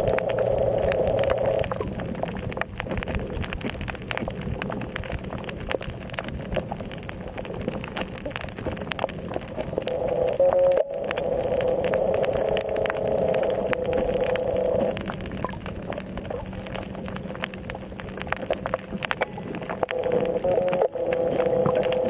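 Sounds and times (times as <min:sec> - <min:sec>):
loud rough noise: 0:00.0 - 0:04.9, 0:08.7 - 0:22.0
steady underwater hiss: 0:00.0 - 0:22.0.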